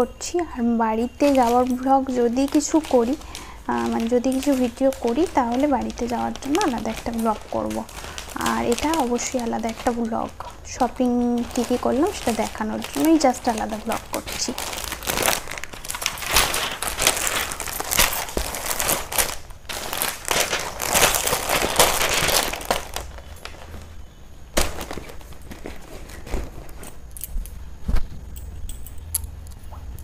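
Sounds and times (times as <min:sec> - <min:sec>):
plastic packaging rustling: 0:00.0 - 0:28.8.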